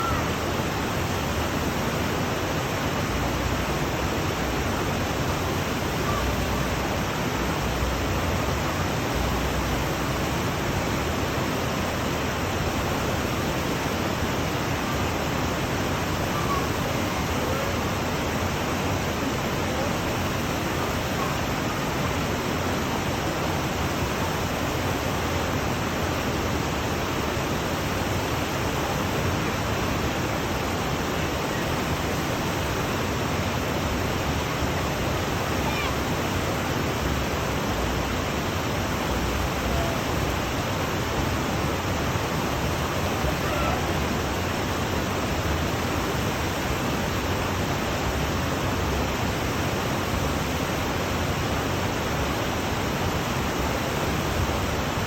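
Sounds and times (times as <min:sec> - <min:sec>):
brook water flowing: 0:00.0 - 0:55.0.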